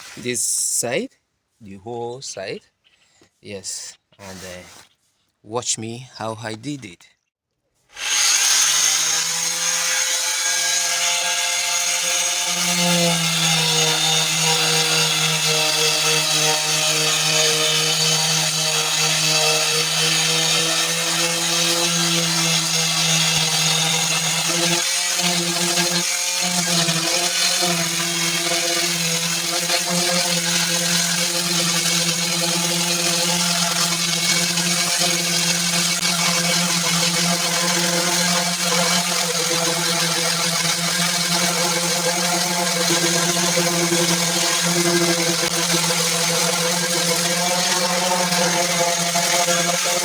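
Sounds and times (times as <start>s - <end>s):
power sander on metal panel: 8.0s - 50.0s.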